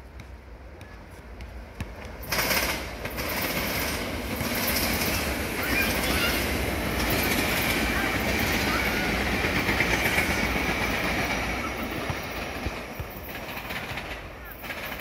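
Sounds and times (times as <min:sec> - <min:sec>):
train wheels rumbling and clattering: 0:01.5 - 0:15.0.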